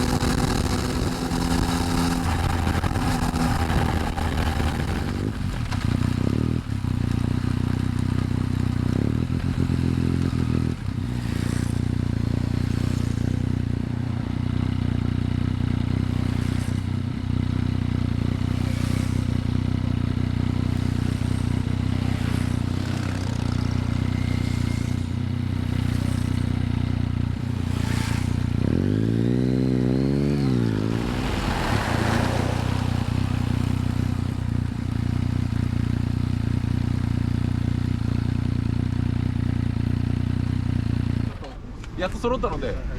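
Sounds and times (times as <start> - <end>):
motorcycle engine idling: 0.0 - 28.6, 32.5 - 41.7.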